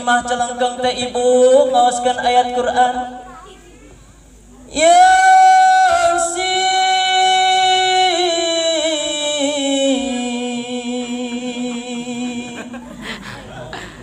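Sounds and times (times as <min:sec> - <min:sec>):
man singing through loudspeaker: 0:00.0 - 0:03.2, 0:04.7 - 0:13.2.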